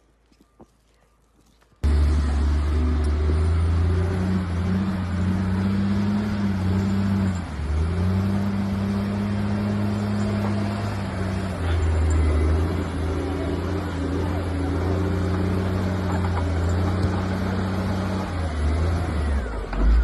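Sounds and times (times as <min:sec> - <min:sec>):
vehicle engine humming: 0:01.8 - 0:20.0.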